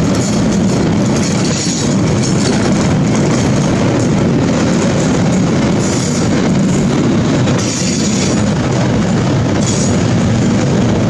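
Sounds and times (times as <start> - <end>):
freight wagons rumbling on track: 0.0 - 11.0.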